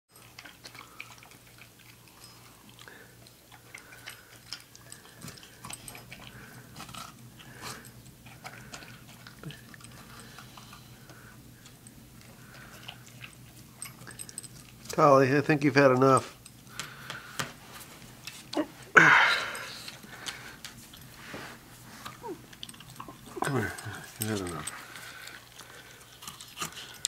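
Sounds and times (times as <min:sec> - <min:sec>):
dog chewing melon: 0:00.1 - 0:17.4, 0:21.8 - 0:27.0.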